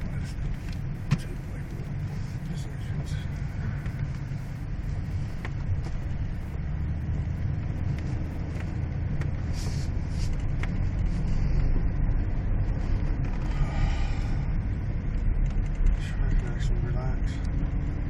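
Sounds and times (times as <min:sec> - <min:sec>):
vehicle engine and tyres rumbling: 0:00.0 - 0:18.0.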